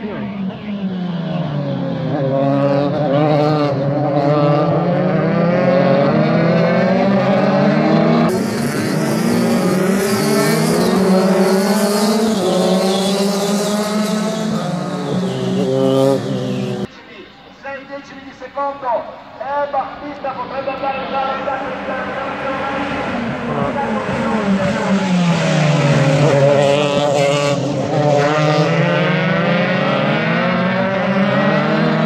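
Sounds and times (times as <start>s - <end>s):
race car engines running hard: 0.0s - 16.9s, 20.7s - 32.0s.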